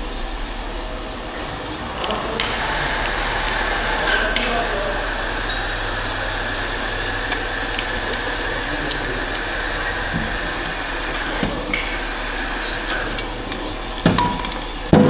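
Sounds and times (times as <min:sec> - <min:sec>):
workshop machinery hum: 0:01.0 - 0:15.0
light clinks of metal tools: 0:01.4 - 0:14.9.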